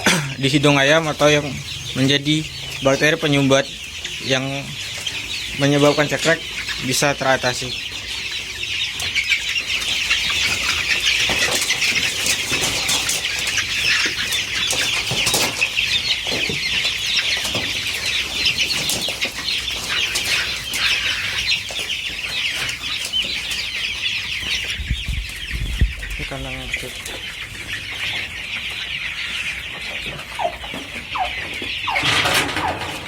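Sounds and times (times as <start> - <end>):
chickens clucking and peeping: 0.0 - 33.0.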